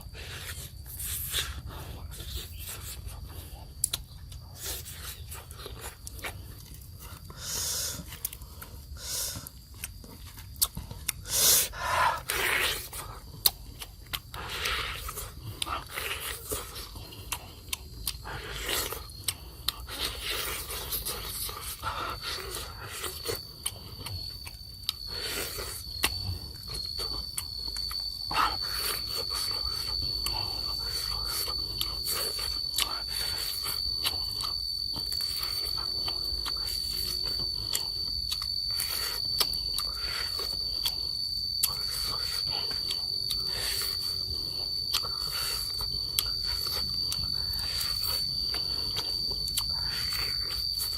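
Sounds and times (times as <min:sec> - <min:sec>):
high-pitched whine: 0:00.0 - 0:50.9.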